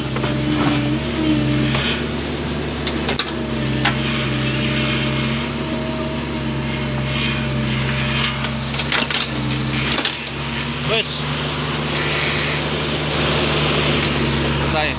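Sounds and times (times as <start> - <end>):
excavator diesel engine: 0.0 - 14.9.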